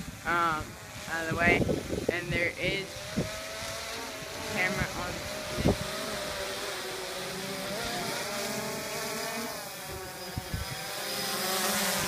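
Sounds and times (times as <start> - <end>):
drone motors buzzing: 0.0 - 12.0.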